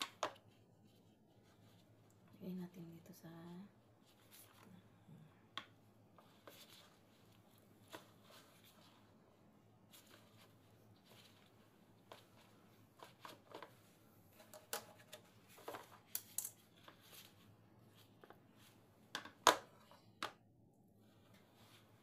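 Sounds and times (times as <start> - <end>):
plastic gloves rustling: 0.0 - 5.1, 5.7 - 19.4, 20.9 - 22.0.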